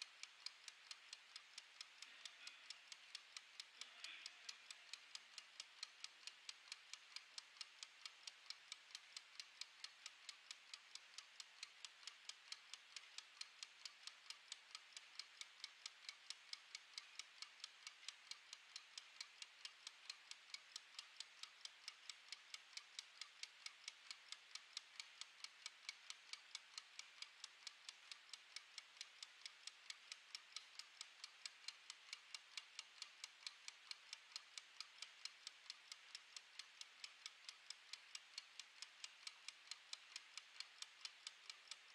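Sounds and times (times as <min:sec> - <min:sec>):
kitchen timer ticking: 0:00.0 - 0:41.9.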